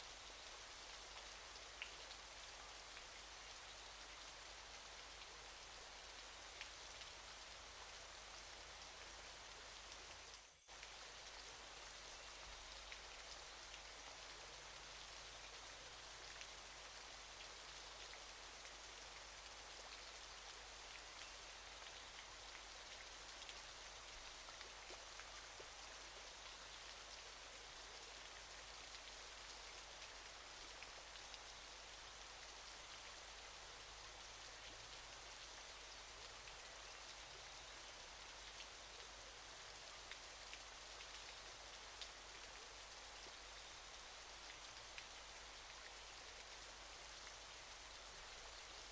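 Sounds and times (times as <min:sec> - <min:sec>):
waterfall hiss: 0:00.0 - 0:48.9.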